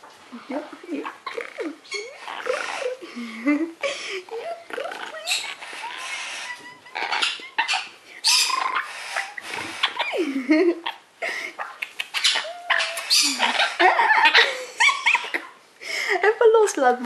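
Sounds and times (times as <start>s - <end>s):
parrot squawking and chattering: 0.4s - 3.1s, 4.3s - 15.6s.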